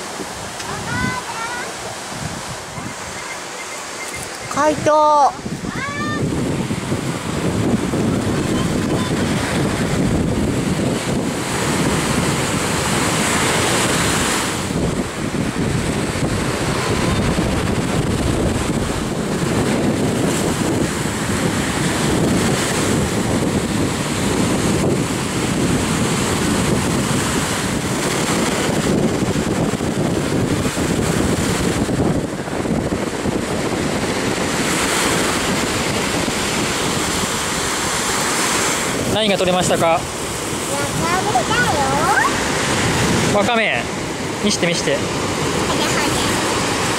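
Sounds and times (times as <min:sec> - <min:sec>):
ocean surf breaking: 0:00.0 - 0:46.9
wind buffeting microphone: 0:00.0 - 0:46.9.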